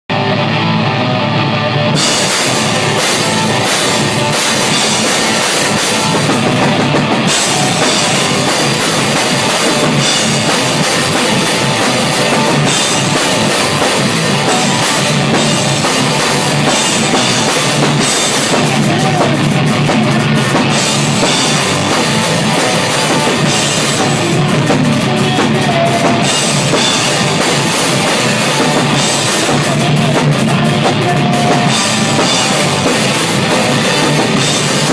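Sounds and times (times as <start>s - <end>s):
drums: 0.1s - 34.9s
heavy rock band playing: 0.1s - 34.9s.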